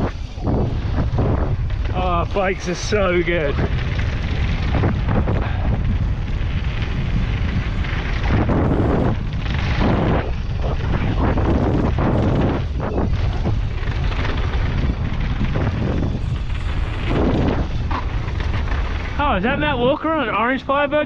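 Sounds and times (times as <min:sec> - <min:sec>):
bike tyres rolling on dirt: 0:00.0 - 0:21.0
wind rushing over microphone: 0:00.0 - 0:21.0.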